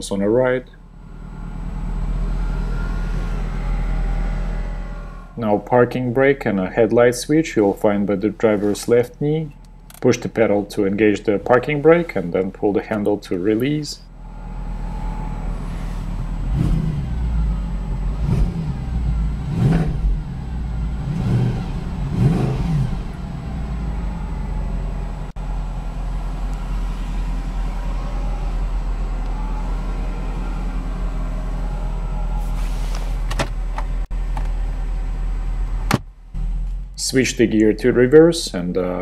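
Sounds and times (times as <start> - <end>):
car engine revving and idling: 0.0 - 39.0.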